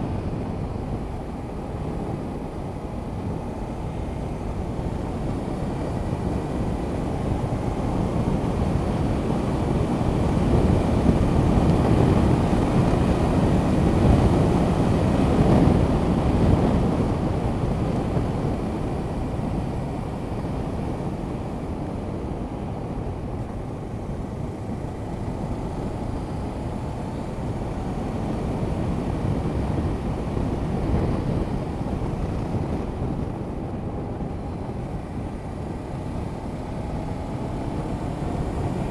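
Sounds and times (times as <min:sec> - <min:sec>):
motorcycle engine cruising: 0:00.0 - 0:38.9
wind rush over microphone: 0:00.0 - 0:38.9.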